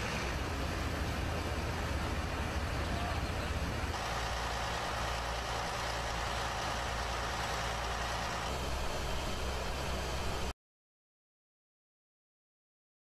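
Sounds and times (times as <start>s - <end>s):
truck engine idling: 0.0s - 10.5s.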